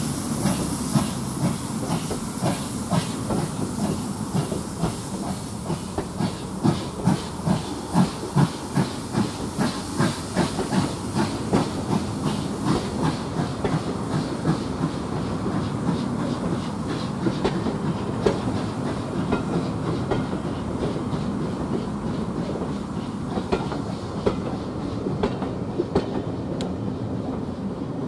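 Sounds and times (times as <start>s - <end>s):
train wheels clicking over rail joints: 0.0s - 27.5s.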